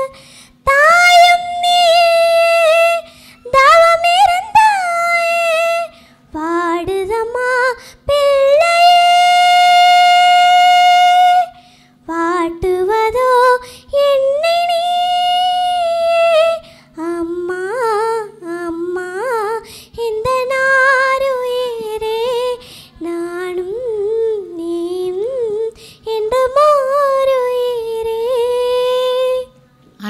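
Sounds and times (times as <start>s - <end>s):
girl singing: 0.0s - 30.0s.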